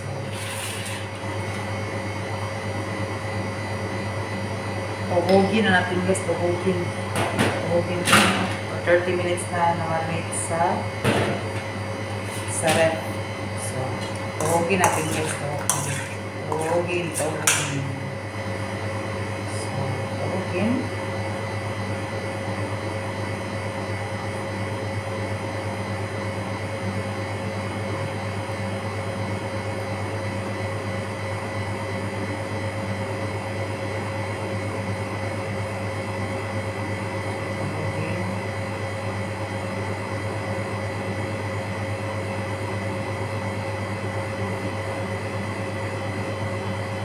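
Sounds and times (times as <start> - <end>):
electric fan motor humming: 0.0 - 47.0.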